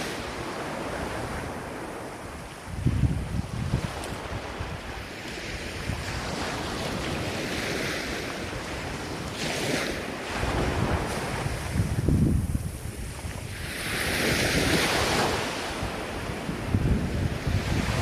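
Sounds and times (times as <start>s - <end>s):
waves breaking: 0.0s - 18.0s
wind buffeting microphone: 0.0s - 18.0s.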